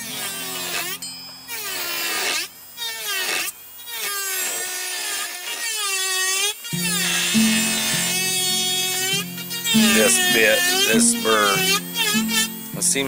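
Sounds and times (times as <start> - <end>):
micro motor burr grinding wood: 0.0 - 13.0.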